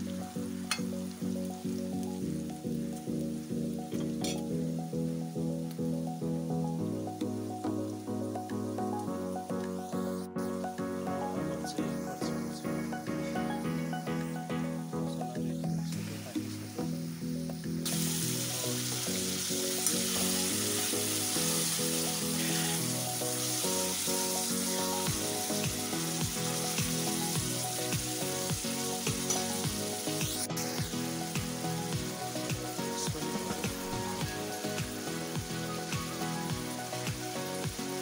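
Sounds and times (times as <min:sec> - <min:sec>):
meat sizzling in hot oil: 0:00.0 - 0:09.7, 0:15.9 - 0:38.0.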